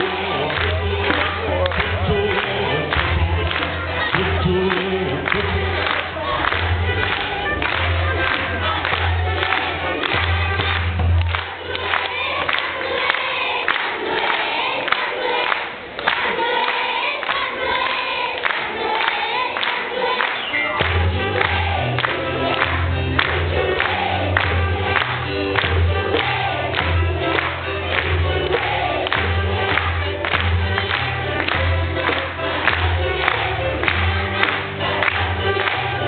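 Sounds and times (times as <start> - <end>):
instrumental accompaniment: 0.0 - 15.4, 16.3 - 36.0
children's choir singing: 0.0 - 36.0.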